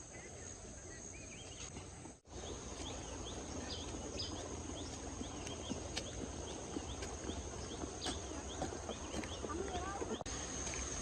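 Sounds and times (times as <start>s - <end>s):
bird chirps: 0.0s - 10.3s.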